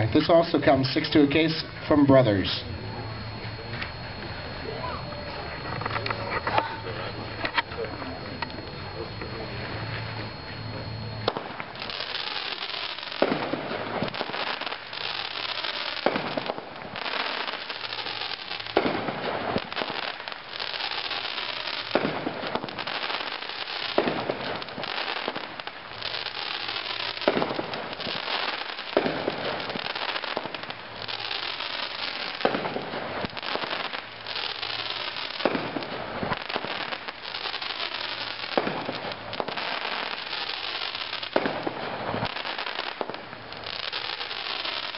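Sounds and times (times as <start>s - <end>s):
firework crackling: 0.0s - 44.9s
firework shots: 0.0s - 44.9s.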